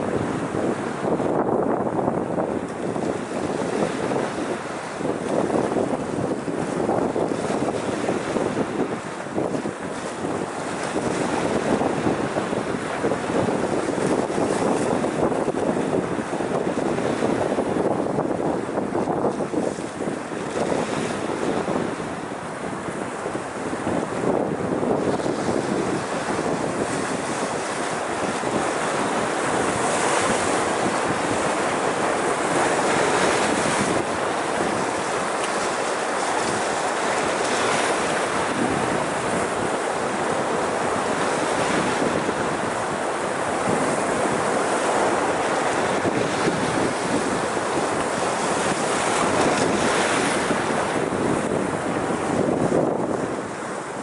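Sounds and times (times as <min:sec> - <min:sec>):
waves splashing over rocks: 0:00.0 - 0:54.0
wind: 0:00.0 - 0:54.0.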